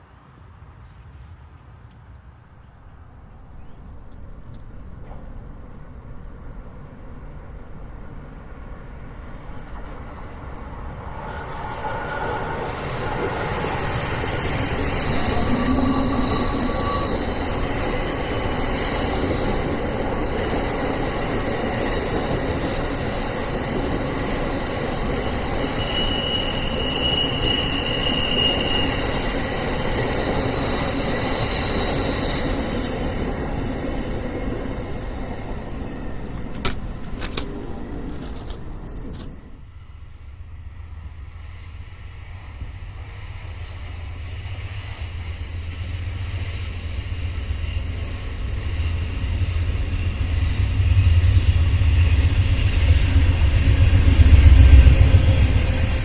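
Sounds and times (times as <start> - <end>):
passing train rumble: 1.4 - 56.0
train wheels squealing: 3.0 - 56.0.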